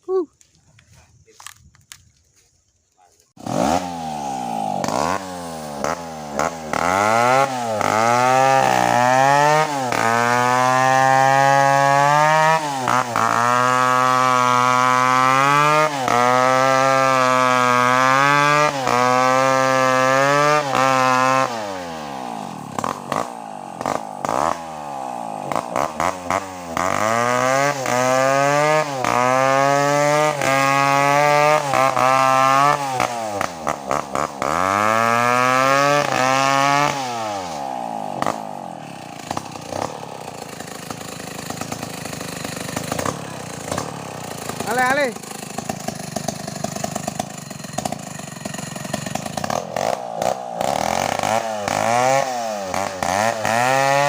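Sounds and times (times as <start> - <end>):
chainsaw revving: 3.4 - 54.0.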